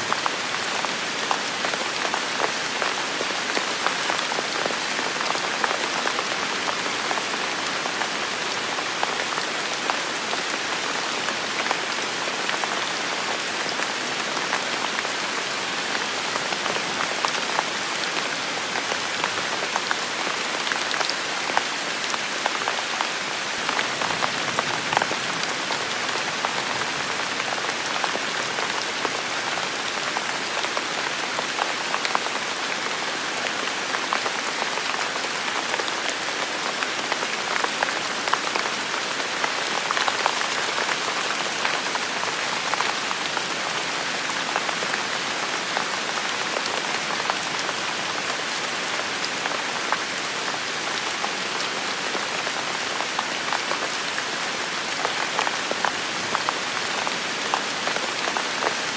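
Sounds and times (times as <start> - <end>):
heavy rain in forest: 0.0 - 58.9.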